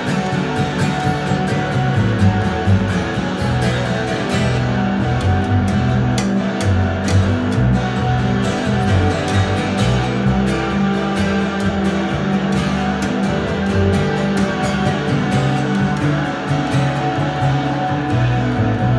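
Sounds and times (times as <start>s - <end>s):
plucked double bass: 0.0s - 18.9s
strummed acoustic string instrument: 0.0s - 18.9s.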